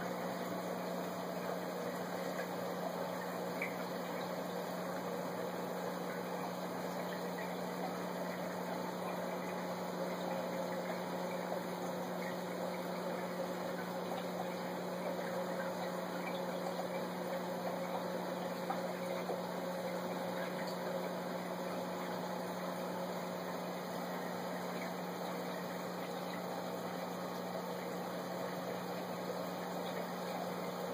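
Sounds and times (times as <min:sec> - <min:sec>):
aquarium filter hum: 0:00.0 - 0:30.9.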